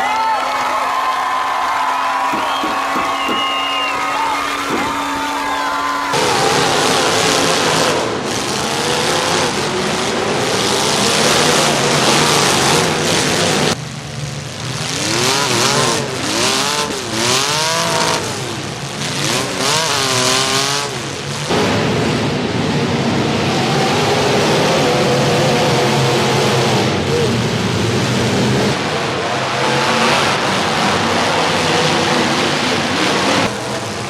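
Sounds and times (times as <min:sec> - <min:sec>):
car engines revving: 0:01.0 - 0:34.0.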